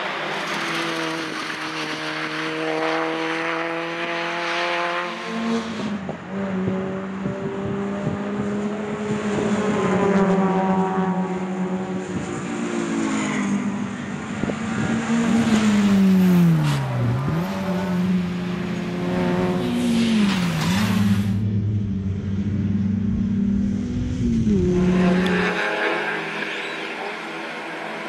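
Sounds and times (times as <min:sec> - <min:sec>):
race car engines at high revs: 0:00.0 - 0:28.0.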